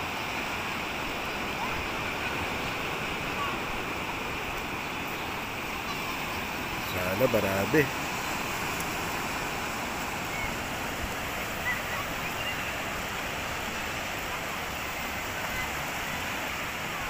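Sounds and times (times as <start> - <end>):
surf washing up beach: 0.0 - 17.0.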